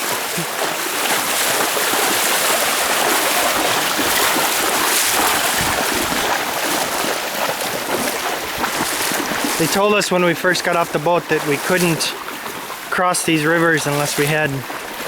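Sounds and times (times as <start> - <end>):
river water flowing over rocks: 0.0 - 15.0.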